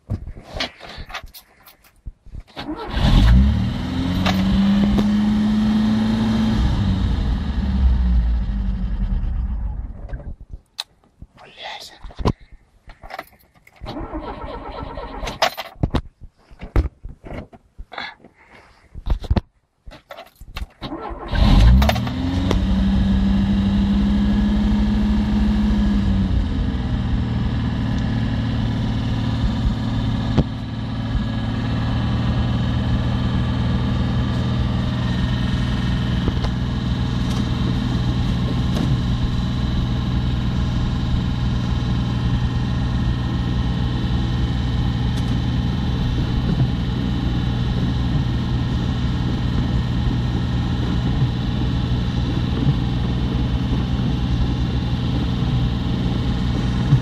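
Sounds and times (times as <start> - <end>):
car engine starting and idling: 2.5 - 10.2, 13.1 - 15.7, 20.7 - 57.0.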